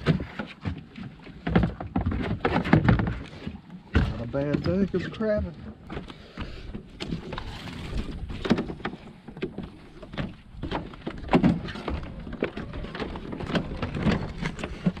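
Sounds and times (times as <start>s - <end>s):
footsteps on wooden planks: 0.0s - 15.0s.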